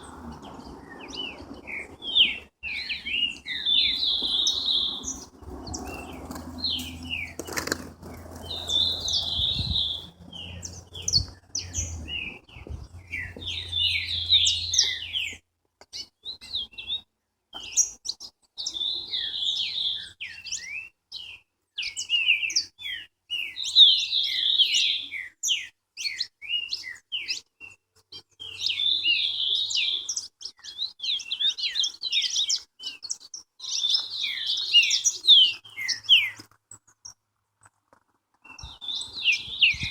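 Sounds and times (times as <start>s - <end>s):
songbird chirping song: 0.0s - 39.9s.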